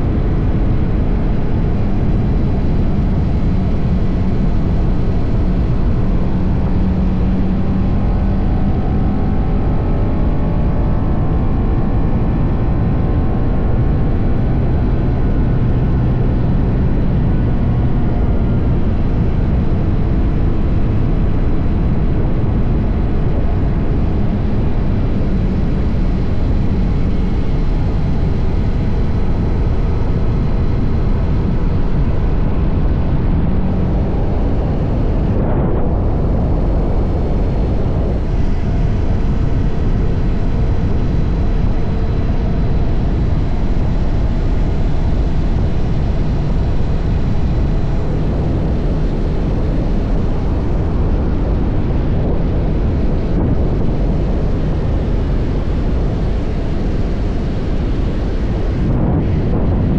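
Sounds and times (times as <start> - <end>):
motorcycle engine at speed: 0.0 - 59.9
wind on microphone: 0.0 - 59.9.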